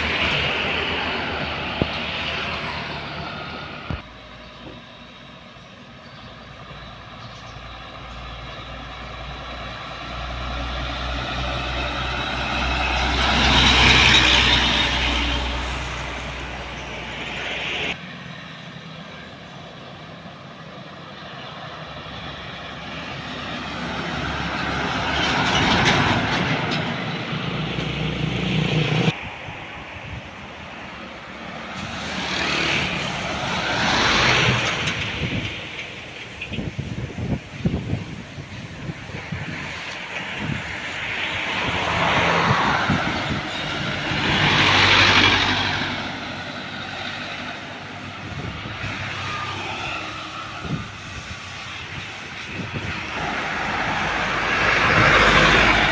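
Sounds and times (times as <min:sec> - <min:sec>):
heavy trucks passing: 0:00.0 - 0:55.9.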